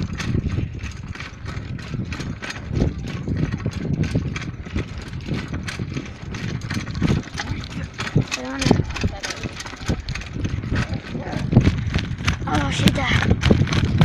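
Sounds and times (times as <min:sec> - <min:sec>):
bicycle rattling over rough road: 0:00.0 - 0:14.0
wind rumbling on microphone: 0:00.0 - 0:14.0.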